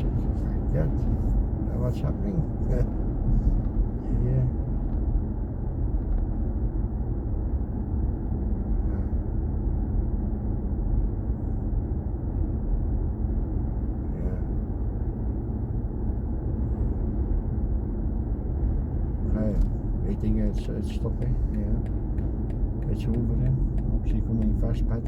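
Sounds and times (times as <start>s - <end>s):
road and tyre noise: 0.0s - 25.0s.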